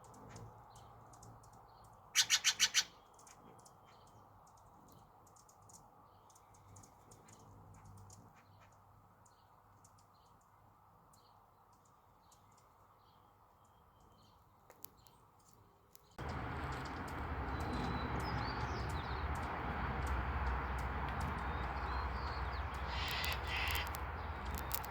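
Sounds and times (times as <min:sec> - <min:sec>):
small bird chirps: 0:00.0 - 0:24.9.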